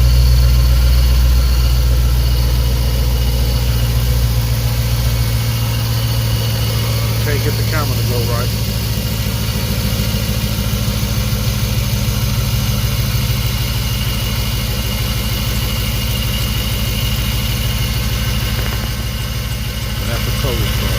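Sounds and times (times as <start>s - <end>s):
pickup engine idling: 0.0s - 20.9s.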